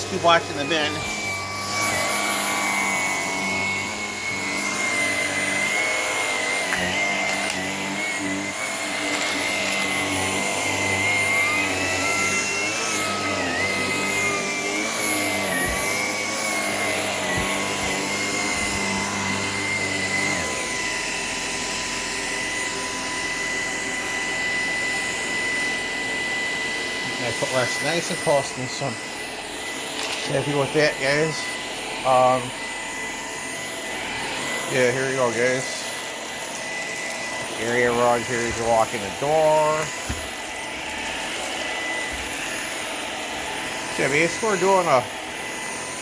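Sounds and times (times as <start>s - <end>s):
cordless vacuum motor whining: 0.0s - 46.0s.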